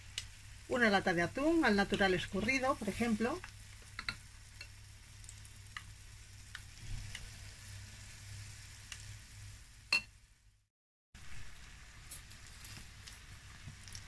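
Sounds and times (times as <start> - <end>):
batter sizzling in oil: 0.0 - 14.0.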